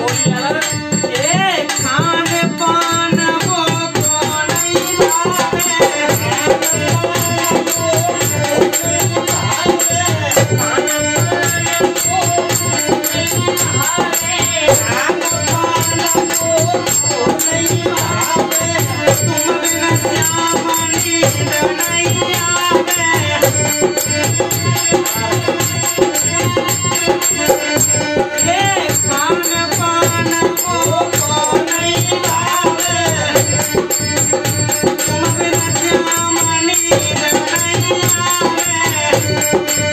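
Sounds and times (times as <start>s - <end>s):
barrel drum rhythm: 0.0s - 39.9s
harmonium drone: 0.0s - 39.9s
man singing: 0.0s - 39.9s.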